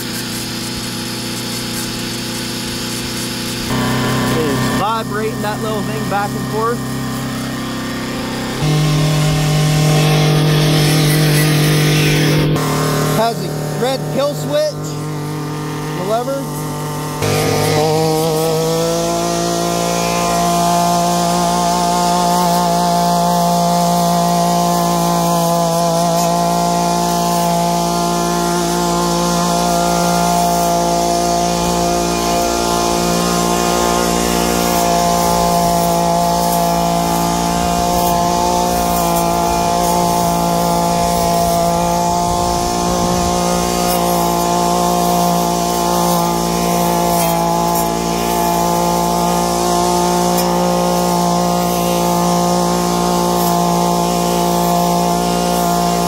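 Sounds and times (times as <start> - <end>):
trimmer engine running: 0.0 - 56.0.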